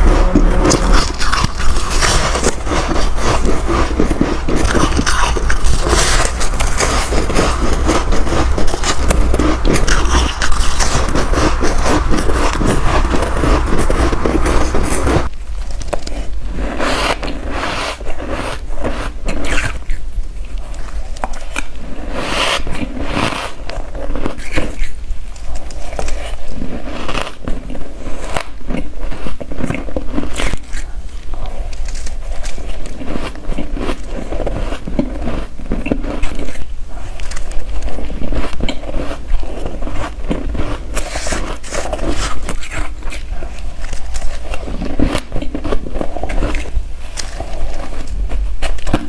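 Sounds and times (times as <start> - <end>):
ice being chewed: 0.0 - 49.0.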